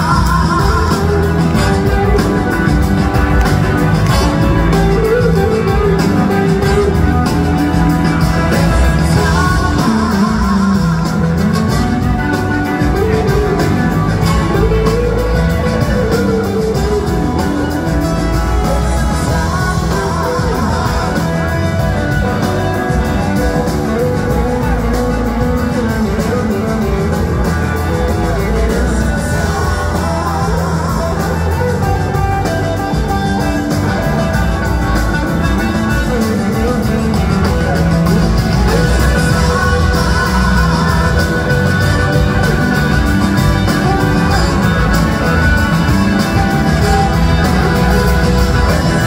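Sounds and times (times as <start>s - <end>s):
bass and drums: 0.0s - 49.0s
electric guitars: 0.0s - 49.0s
person singing: 0.0s - 49.0s.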